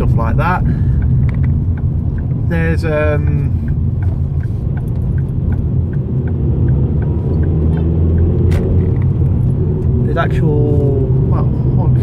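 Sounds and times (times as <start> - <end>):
car engine and road rumble: 0.0 - 12.0
light regular ticking: 0.0 - 12.0.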